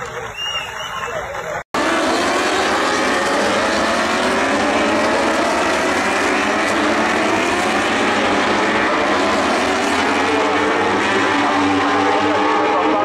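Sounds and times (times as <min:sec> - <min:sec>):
racing motorcycles revving: 0:01.6 - 0:13.0.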